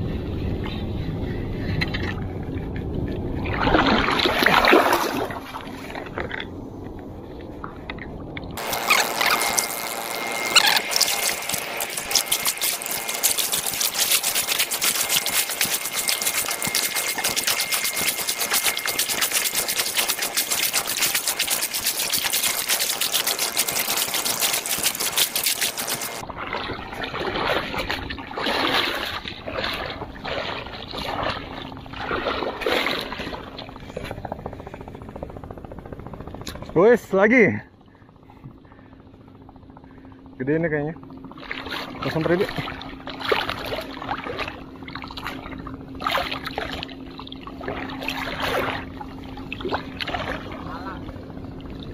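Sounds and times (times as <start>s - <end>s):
water sloshing and splashing: 1.2s - 9.0s, 10.6s - 34.2s, 41.1s - 51.9s.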